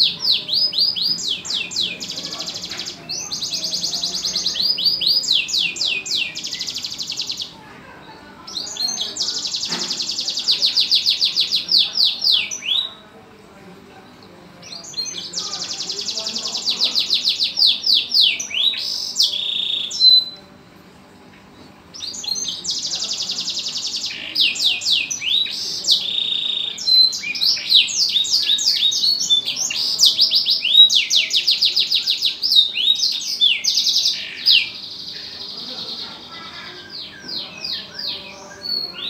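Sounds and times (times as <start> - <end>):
canary singing: 0.0 - 13.2, 14.6 - 20.6, 21.8 - 39.0.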